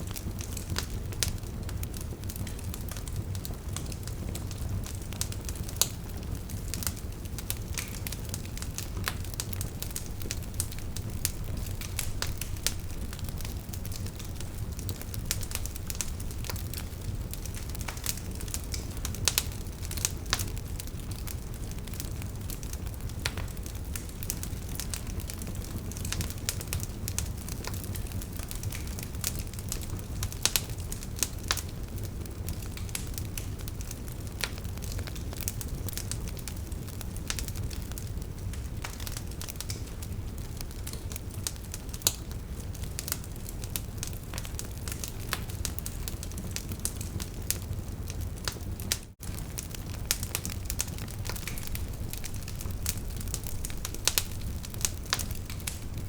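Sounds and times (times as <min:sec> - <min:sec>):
low rush of flame: 0:00.0 - 0:56.0
burning logs popping and snapping: 0:00.1 - 0:56.0.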